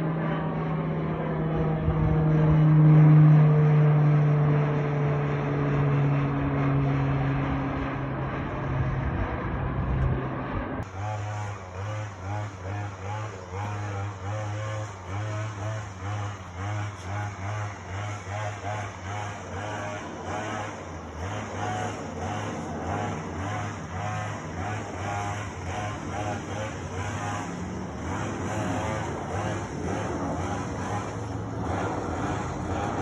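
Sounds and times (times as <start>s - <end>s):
aircraft engine hum: 0.0s - 33.0s.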